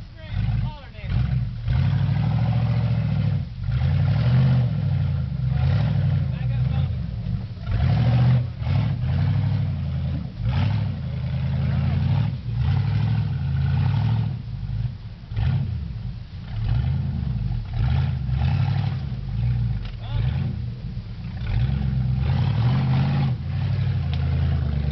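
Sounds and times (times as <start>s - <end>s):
engine revving in bursts: 0.0s - 24.9s.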